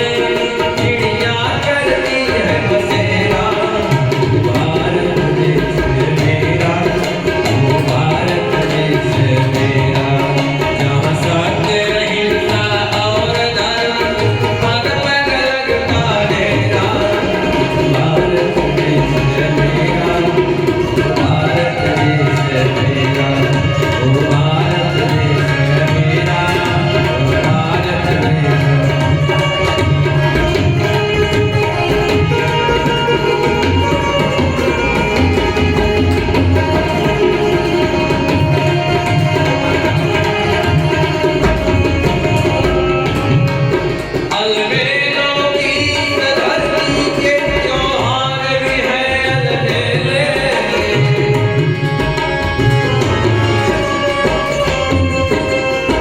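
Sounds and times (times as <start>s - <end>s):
tabla drumming: 0.0s - 56.0s.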